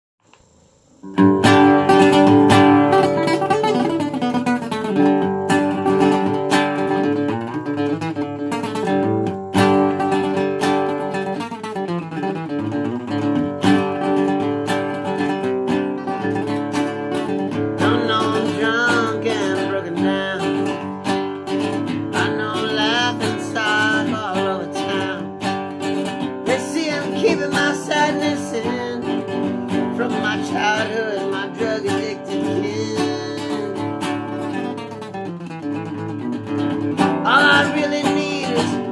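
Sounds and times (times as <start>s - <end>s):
strummed acoustic guitar: 1.0s - 38.9s.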